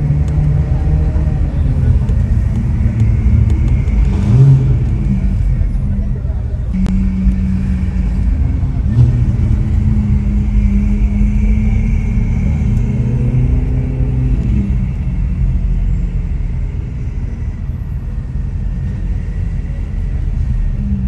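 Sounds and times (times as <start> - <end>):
sports car engine running: 0.0 - 21.0.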